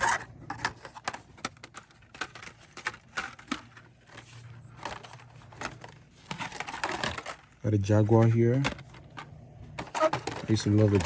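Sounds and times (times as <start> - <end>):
plastic and cardboard crinkling: 0.0 - 11.0.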